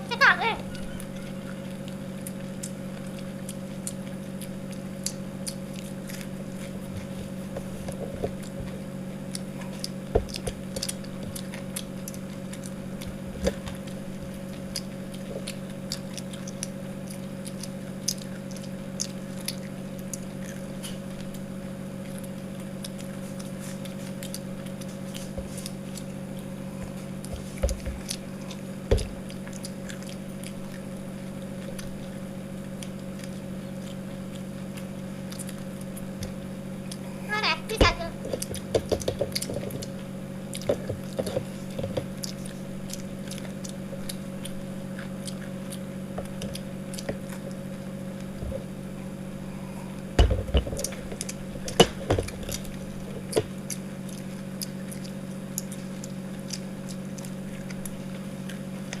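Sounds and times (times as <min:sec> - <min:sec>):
people chewing crispy food: 0:00.0 - 0:59.0
steady low hum: 0:00.0 - 0:59.0.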